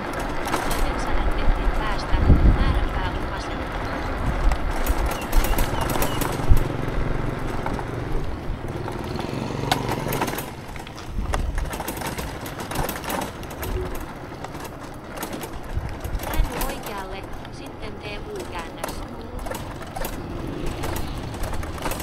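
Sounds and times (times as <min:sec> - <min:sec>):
street traffic: 0:00.0 - 0:22.0
vehicle engine running close: 0:00.0 - 0:22.0
wind rumbling on microphone: 0:00.0 - 0:22.0.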